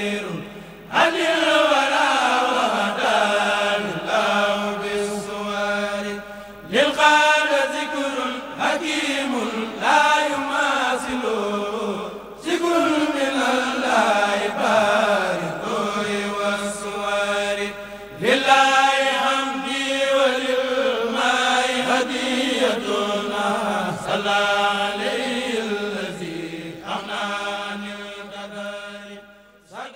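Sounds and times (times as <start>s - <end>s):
person chanting devotional poem: 0.0s - 29.9s.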